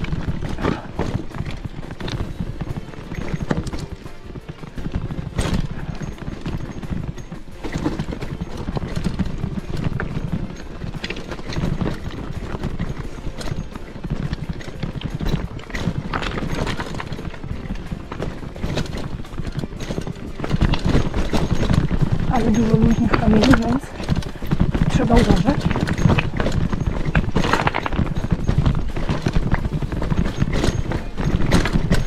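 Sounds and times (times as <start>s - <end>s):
bike clattering over rocks: 0.0s - 32.0s.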